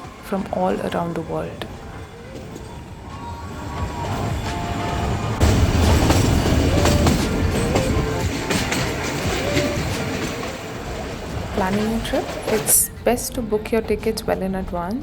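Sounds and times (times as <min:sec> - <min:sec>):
wheel squeals: 0:00.0 - 0:14.2
train rumbling on rails: 0:00.0 - 0:15.0.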